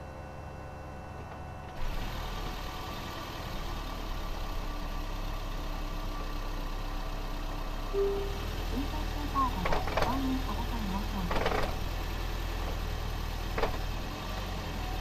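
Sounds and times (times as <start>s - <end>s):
car engine running: 1.8s - 15.0s.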